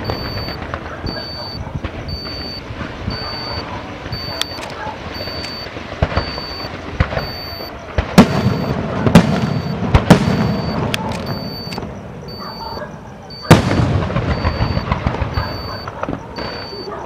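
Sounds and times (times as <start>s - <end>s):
fireworks crackling: 0.0s - 12.3s, 13.3s - 17.0s
fireworks bangs: 0.0s - 17.0s.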